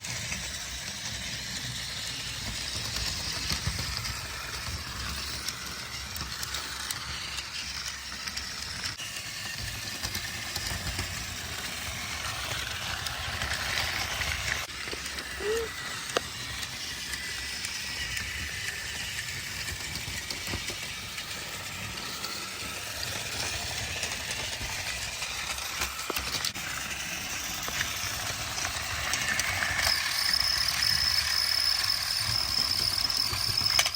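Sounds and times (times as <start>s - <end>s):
toy train motor whir: 0.0s - 33.9s.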